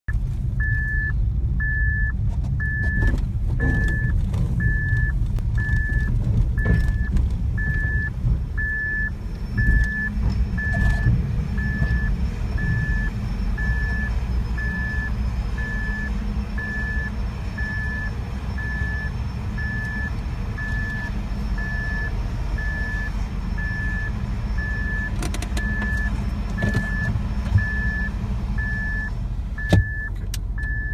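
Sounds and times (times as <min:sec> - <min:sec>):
vehicle engines rumbling: 0:00.1 - 0:30.9
electronic warning beeper: 0:00.6 - 0:30.1.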